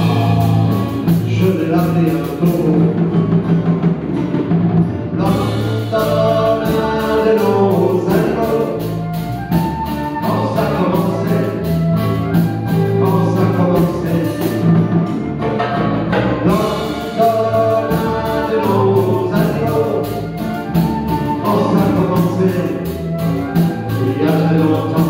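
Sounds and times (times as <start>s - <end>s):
flute melody: 0.0s - 3.2s, 5.0s - 25.0s
strummed acoustic guitars: 0.0s - 25.0s.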